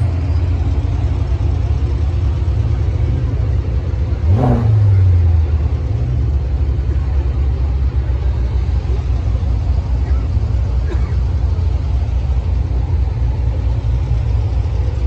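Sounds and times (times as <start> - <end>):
car engine revving: 0.0 - 15.0
car engine running: 0.0 - 15.0.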